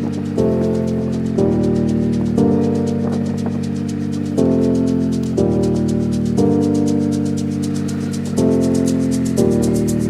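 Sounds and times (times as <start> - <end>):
light ticking beat: 0.0 - 10.0
sustained chords: 0.0 - 10.0.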